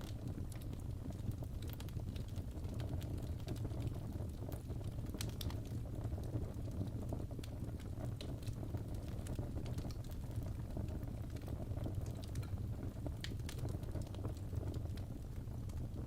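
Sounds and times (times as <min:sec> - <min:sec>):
fire burning in a fireplace: 0:00.0 - 0:16.0
fire crackles and pops: 0:00.0 - 0:16.0.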